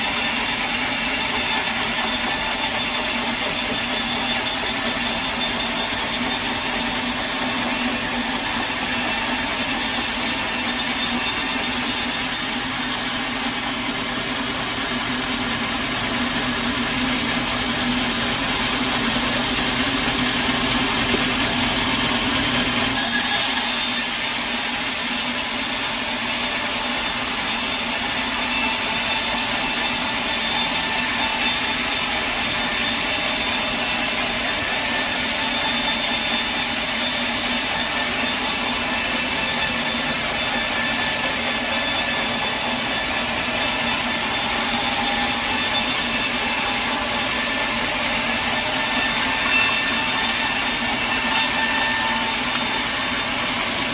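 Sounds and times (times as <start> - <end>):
saw blade whining in wood: 0.0 - 53.9
sawmill engine hum: 0.0 - 53.9.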